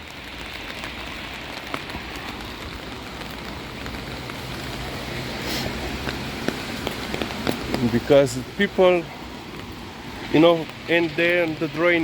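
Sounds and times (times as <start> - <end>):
rain falling on wet surfaces: 0.0 - 12.0.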